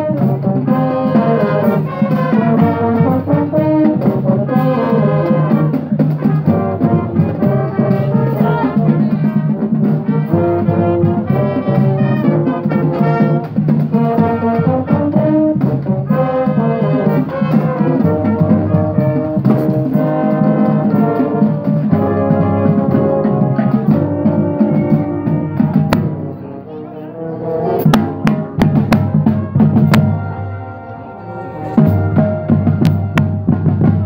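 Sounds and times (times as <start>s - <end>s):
marching drums: 0.0s - 26.4s, 27.8s - 30.8s, 31.6s - 34.0s
brass marching band playing: 0.0s - 34.0s.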